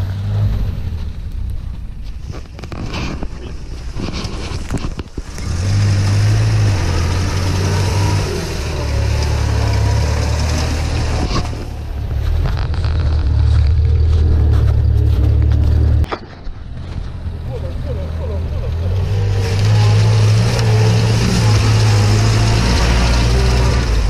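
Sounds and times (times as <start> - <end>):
van engine droning under load: 0.0 - 24.0.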